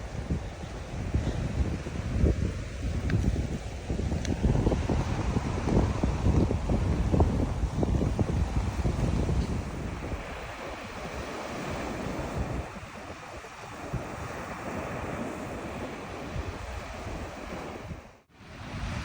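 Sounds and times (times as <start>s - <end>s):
surf: 0.0s - 19.0s
wind buffeting microphone: 0.0s - 19.0s.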